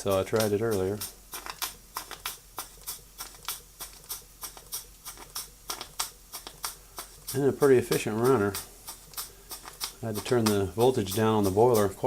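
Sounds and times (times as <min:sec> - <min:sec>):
steam engine exhaust chuffing: 0:00.0 - 0:12.0.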